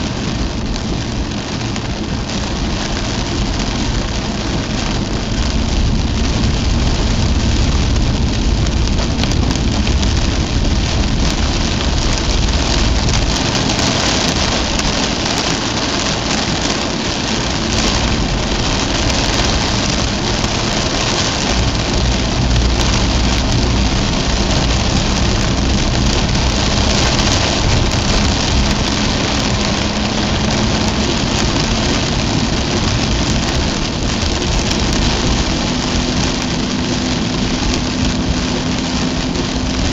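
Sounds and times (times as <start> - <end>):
car engine hum: 0.0 - 39.9
heavy rain on car roof: 0.0 - 39.9
tyres on wet road: 0.0 - 39.9.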